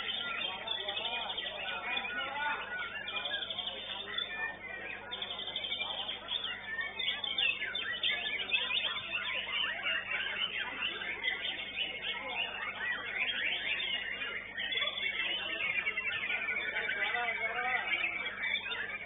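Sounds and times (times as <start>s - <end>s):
other songbirds calling: 0.0s - 19.0s.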